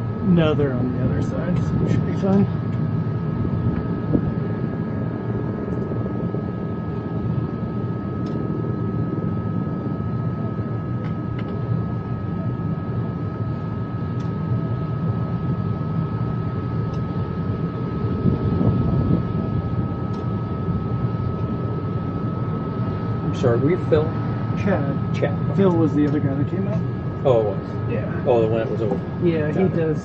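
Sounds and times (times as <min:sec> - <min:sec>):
high-pitched whine: 0:00.0 - 0:30.0
machinery low rumble: 0:00.0 - 0:30.0.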